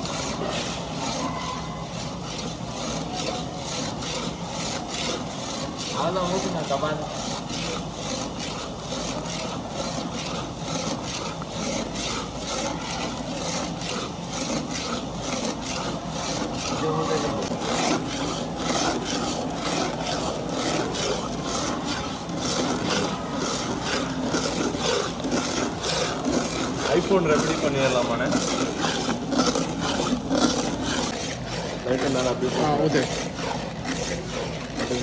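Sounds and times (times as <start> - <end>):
rhythmic rasping: 0.0 - 35.0.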